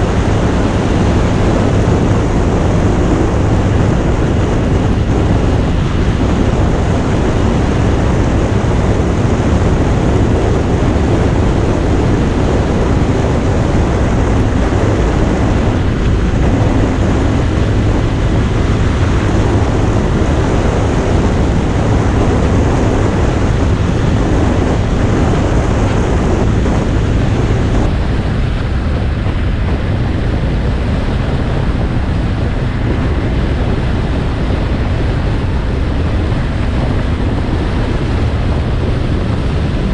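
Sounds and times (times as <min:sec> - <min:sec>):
motorcycle engine and road noise: 0:00.0 - 0:39.9
wind buffeting on microphone: 0:00.0 - 0:39.9.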